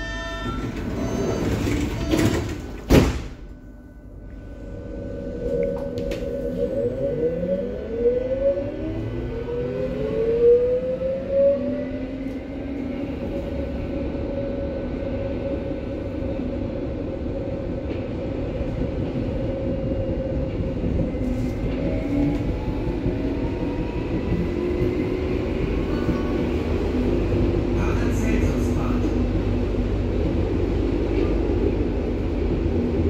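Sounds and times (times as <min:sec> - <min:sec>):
rumble of wheels on rail: 0:00.0 - 0:33.0.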